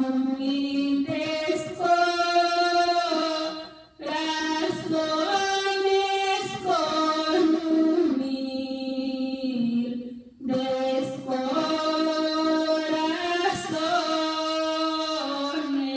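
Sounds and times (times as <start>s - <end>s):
woman singing unaccompanied: 0.0s - 15.9s.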